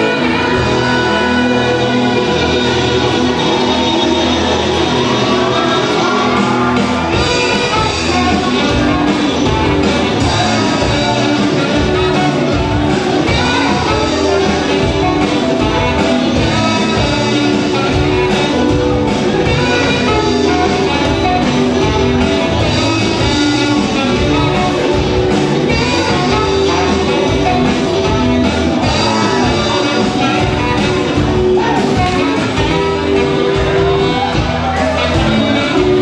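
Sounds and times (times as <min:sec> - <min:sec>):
bass guitar: 0:00.0 - 0:36.0
drums: 0:00.0 - 0:36.0
electric guitar: 0:00.0 - 0:36.0
saxophone playing tune: 0:00.0 - 0:36.0.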